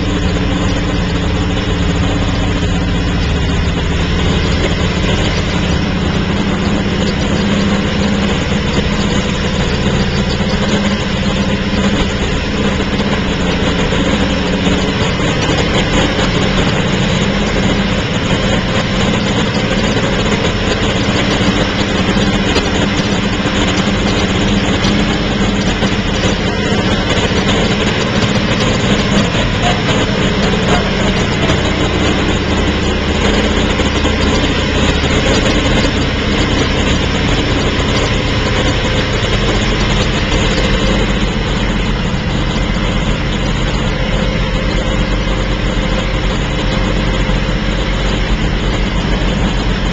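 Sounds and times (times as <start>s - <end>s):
racing engine idling: 0.0s - 49.9s.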